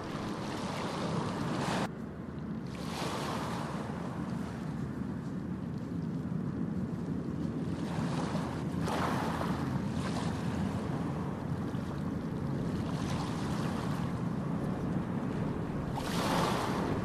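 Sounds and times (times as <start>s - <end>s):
ocean waves on beach: 0.0s - 17.0s.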